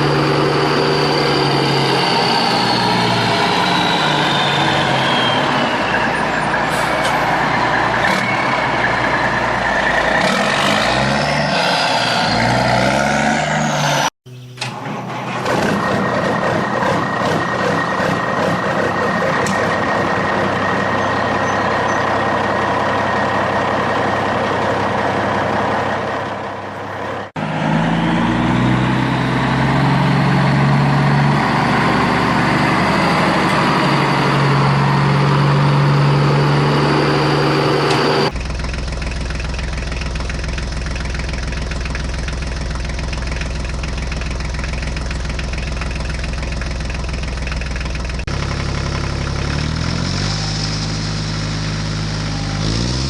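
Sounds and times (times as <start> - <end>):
heavy machine engines running: 0.0 - 12.7, 14.3 - 53.0.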